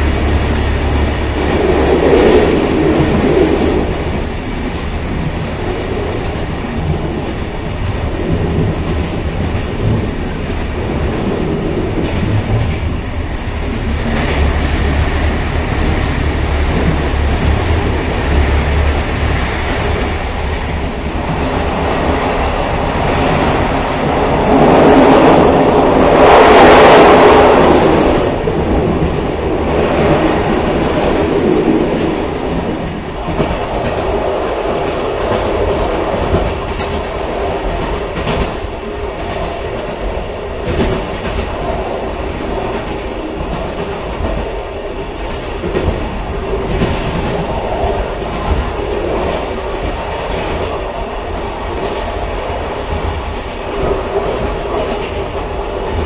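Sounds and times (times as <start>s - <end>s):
rumble of wheels on rails: 0.0s - 56.0s.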